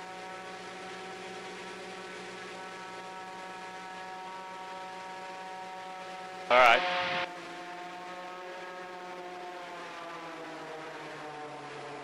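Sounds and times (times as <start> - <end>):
aircraft engine droning: 0.0 - 12.0.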